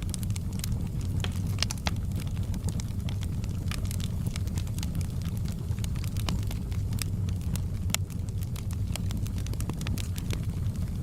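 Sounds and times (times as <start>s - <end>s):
low rumble of campfire flames: 0.0s - 11.0s
wood crackling and popping: 0.0s - 11.0s.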